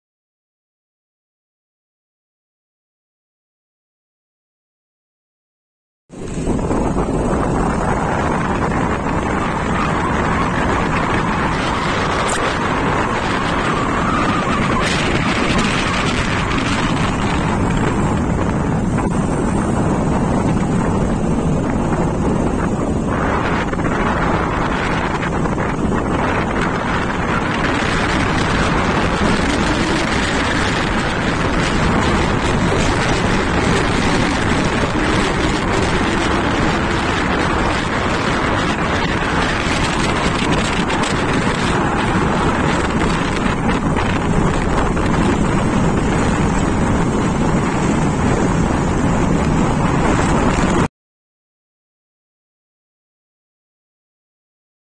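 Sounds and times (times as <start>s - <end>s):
passenger train rumbling: 6.1s - 50.9s
wind buffeting microphone: 6.1s - 50.9s.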